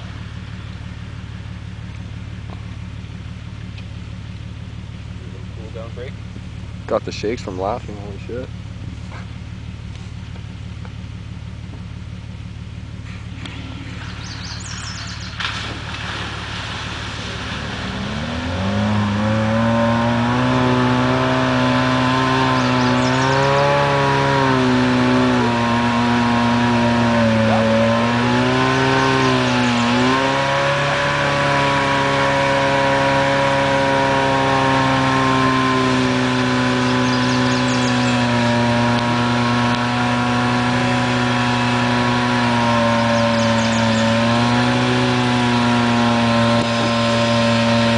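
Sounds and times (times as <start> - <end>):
car engine under load: 0.0 - 47.9.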